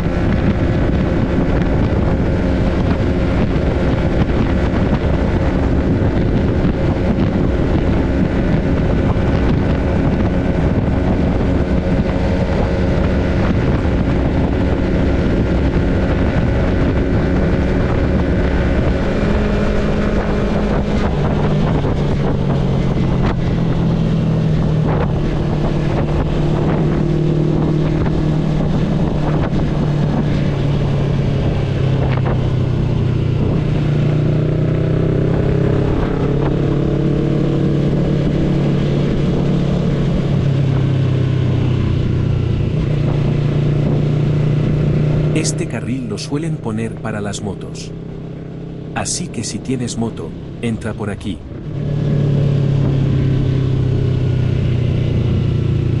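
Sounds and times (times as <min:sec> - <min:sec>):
motorcycle engine running: 0:00.0 - 0:50.8, 0:51.4 - 0:56.0
wind rushing over microphone: 0:00.0 - 0:56.0.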